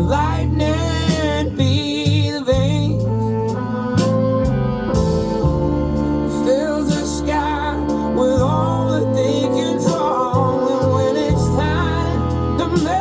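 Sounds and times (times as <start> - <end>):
guitar accompaniment: 0.0 - 13.0
person singing long notes: 0.0 - 13.0.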